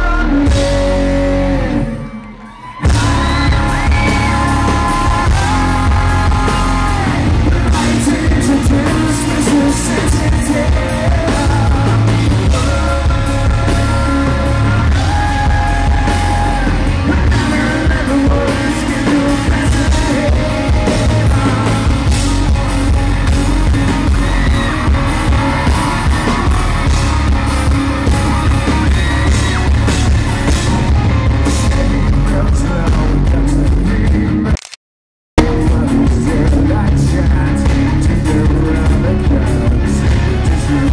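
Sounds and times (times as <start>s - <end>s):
drums: 0.0s - 34.5s, 35.4s - 40.9s
man singing: 0.0s - 34.6s, 35.4s - 40.9s
bass and electric guitars: 0.0s - 34.8s, 35.4s - 40.9s.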